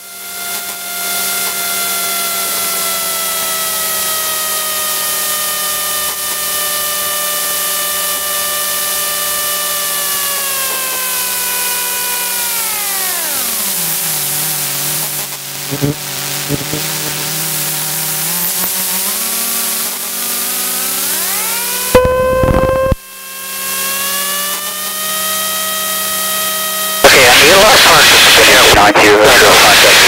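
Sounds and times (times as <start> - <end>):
falling whine: 0.0 - 30.0
propeller plane engine: 0.0 - 30.0.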